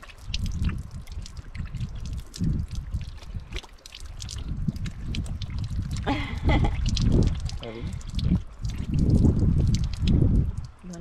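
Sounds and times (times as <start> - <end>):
low uneven rumble: 0.0 - 11.0
small splashes and drips: 0.0 - 11.0
water trickling over hands: 0.0 - 11.0.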